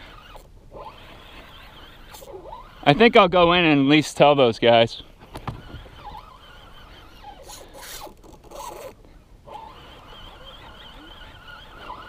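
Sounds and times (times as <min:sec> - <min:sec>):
fishing reel whirring: 0:00.0 - 0:03.2, 0:05.2 - 0:12.0.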